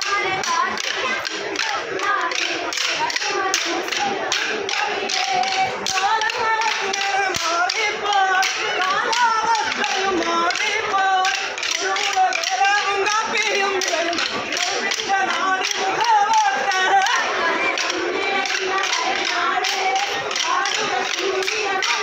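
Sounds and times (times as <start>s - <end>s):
group singing: 0.0s - 22.0s
wooden sticks clacking: 0.0s - 22.0s.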